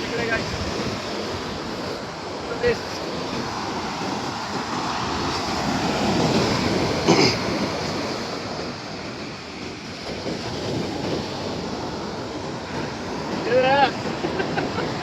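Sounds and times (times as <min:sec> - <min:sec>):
sea surf washing on beach: 0:00.0 - 0:15.0
wind on microphone: 0:00.0 - 0:15.0.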